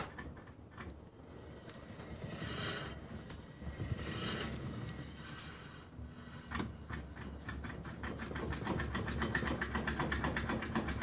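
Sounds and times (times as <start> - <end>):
low steady rumble: 0.0 - 9.1.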